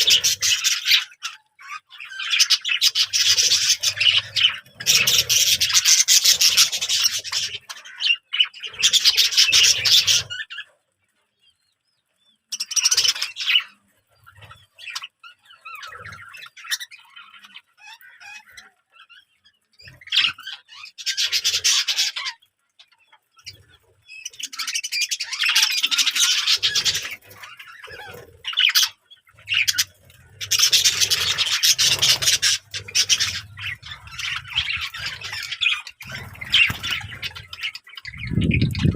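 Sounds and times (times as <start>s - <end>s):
birds calling harshly: 0.0s - 38.9s.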